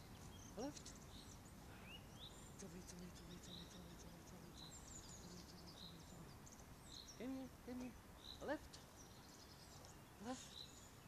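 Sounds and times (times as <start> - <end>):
bird chirps and whistled calls: 0.0 - 7.5, 8.2 - 11.0
low background rumble: 0.0 - 11.0.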